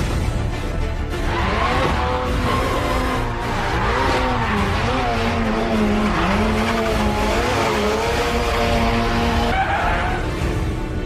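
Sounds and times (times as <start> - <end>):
rally car engine at high revs: 1.2 - 11.0.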